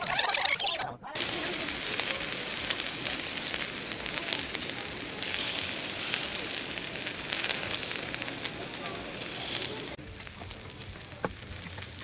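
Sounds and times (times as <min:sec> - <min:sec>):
food sizzling on a grill: 0:01.2 - 0:12.0
wood fire crackling: 0:01.2 - 0:12.0.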